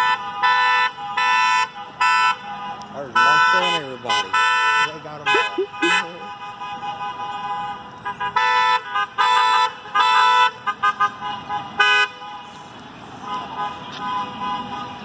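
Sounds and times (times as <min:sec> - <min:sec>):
car horns honking: 0:00.0 - 0:15.0
traffic: 0:00.0 - 0:15.0.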